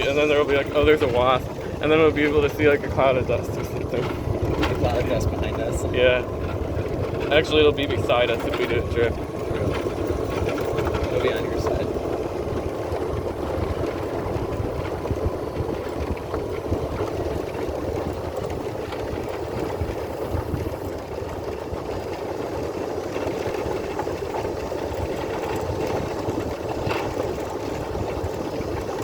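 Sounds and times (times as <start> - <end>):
golf cart driving on gravel: 0.0 - 29.0.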